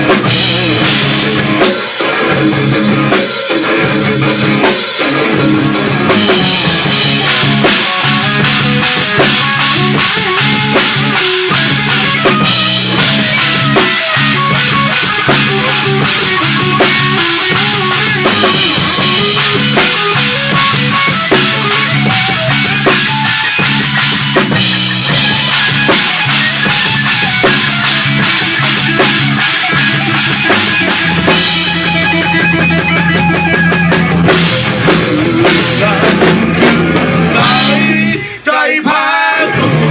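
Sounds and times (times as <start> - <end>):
drum kit beat: 0.0 - 38.4
rock band playing: 0.0 - 38.4, 39.4 - 39.9.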